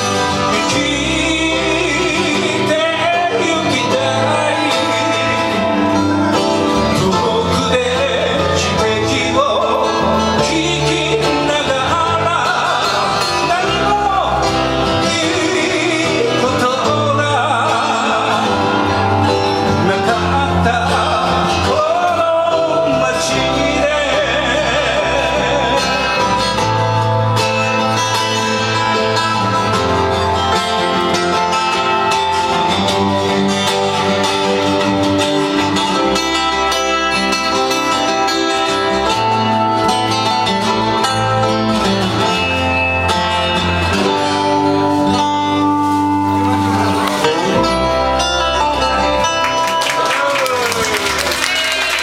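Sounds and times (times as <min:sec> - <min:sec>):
bass line: 0:00.0 - 0:52.0
guitar-led band music: 0:00.0 - 0:52.0.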